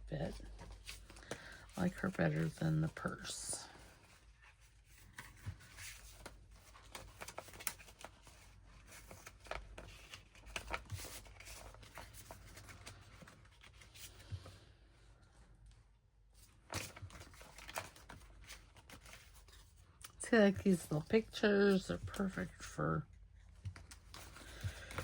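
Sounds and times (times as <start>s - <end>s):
paper rustling: 0.3s - 14.6s, 16.4s - 22.6s, 23.6s - 25.0s.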